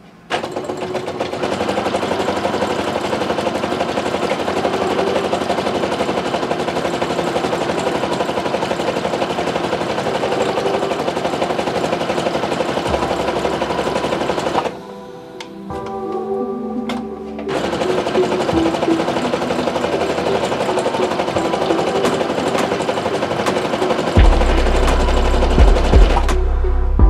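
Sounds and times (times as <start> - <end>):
sewing machine stitching: 0.3 - 14.8, 17.4 - 26.3.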